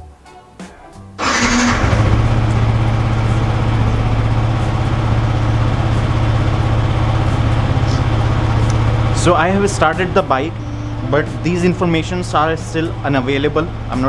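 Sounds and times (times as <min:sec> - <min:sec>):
electric starter cranking: 0:01.2 - 0:12.5
motorcycle engine idling: 0:01.2 - 0:14.0.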